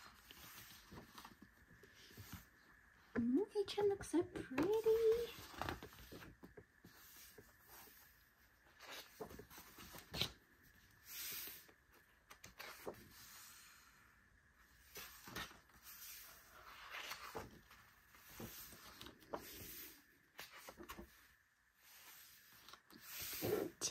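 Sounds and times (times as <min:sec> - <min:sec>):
book pages rustling: 0:00.0 - 0:02.9, 0:04.5 - 0:13.8, 0:14.7 - 0:23.8.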